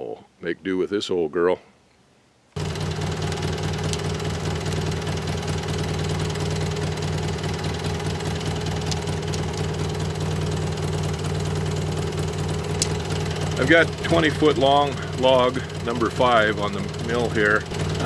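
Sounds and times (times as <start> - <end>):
small engine idling: 2.6 - 18.0.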